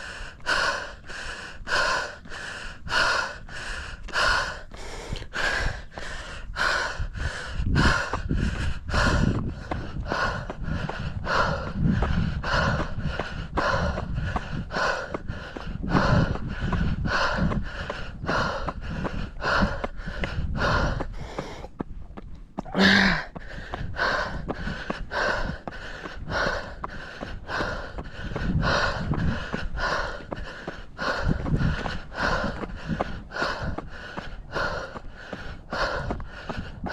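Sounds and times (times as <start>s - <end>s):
runner breathing hard: 0.0s - 36.9s
wind rumbling on microphone: 0.0s - 36.9s.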